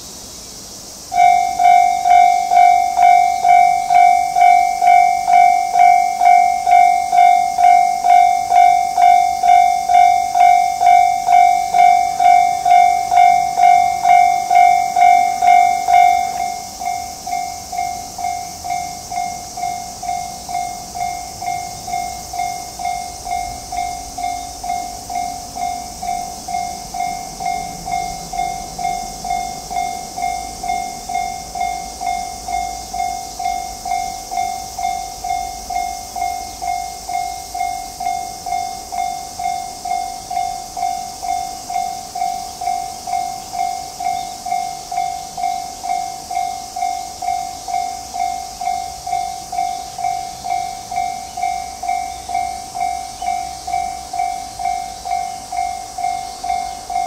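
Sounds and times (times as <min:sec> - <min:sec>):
railroad crossing bell ringing: 0:01.0 - 0:57.0.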